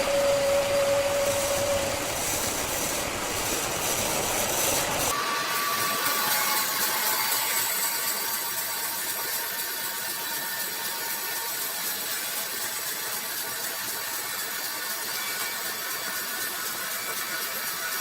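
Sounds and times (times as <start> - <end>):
sawmill machinery hissing: 0.0 - 18.0.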